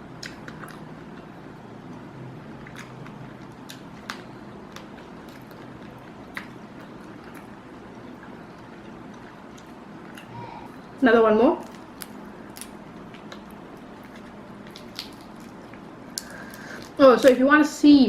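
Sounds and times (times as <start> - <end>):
low background hum: 0.0 - 18.0
person chewing crunchy prawns: 0.1 - 11.0, 11.6 - 17.0.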